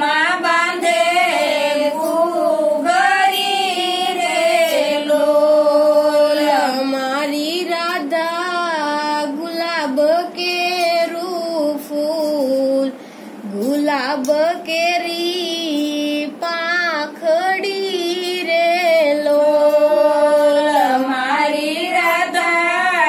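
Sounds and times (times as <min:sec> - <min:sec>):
women singing devotional song: 0:00.0 - 0:23.0.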